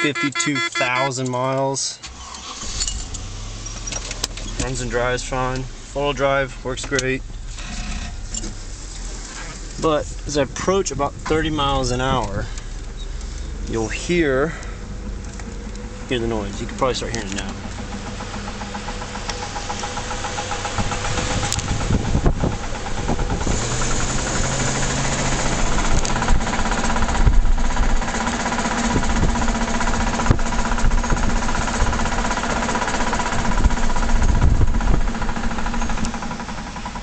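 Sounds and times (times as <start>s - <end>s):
whirring drivetrain hum: 2.0s - 37.0s.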